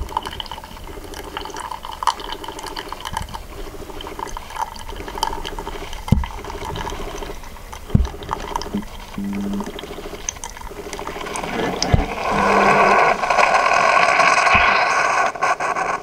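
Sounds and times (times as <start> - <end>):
brewer pump humming in pulses: 0.0 - 14.6
coffee stream pouring into mug: 0.0 - 15.4.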